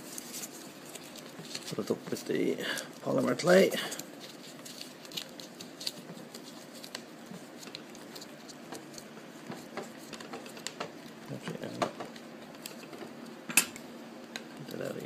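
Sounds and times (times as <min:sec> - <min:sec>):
air conditioner hum: 0:00.0 - 0:15.0
scratching and clicking handling noises: 0:00.0 - 0:15.0.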